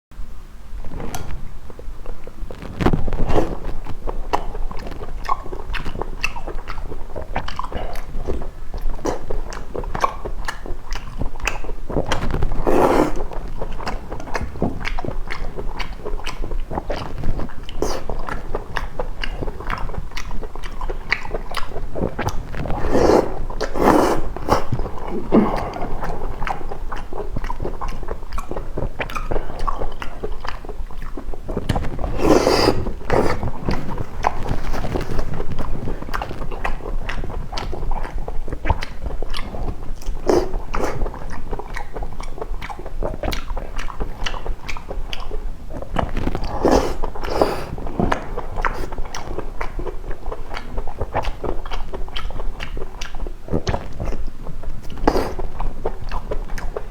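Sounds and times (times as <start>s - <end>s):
man chewing crunchy food: 0.8s - 56.9s.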